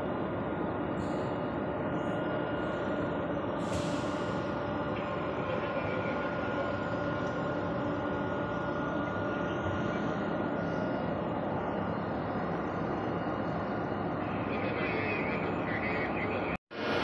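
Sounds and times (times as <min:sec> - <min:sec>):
machinery drone: 0:00.0 - 0:17.0.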